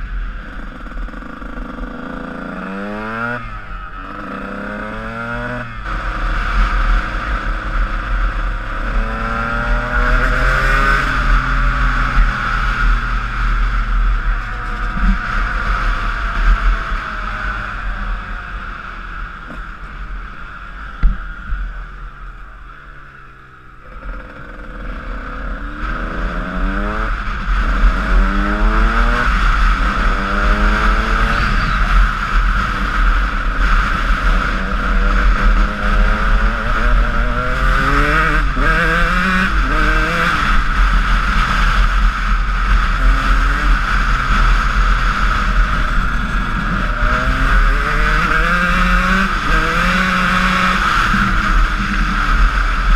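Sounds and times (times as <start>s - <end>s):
dirt bike engine accelerating: 0.0s - 52.9s.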